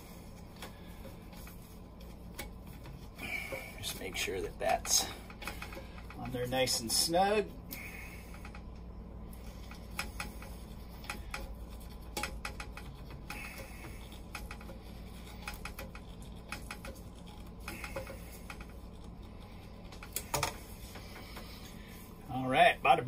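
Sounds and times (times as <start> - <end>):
light clicks and scrapes on plastic: 0.0 - 7.0, 7.7 - 22.2
steady low hum: 0.0 - 23.0.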